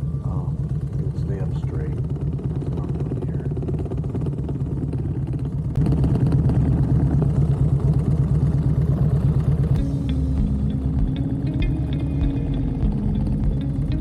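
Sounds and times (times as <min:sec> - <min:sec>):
motorcycle engine pulsing: 0:00.0 - 0:14.0.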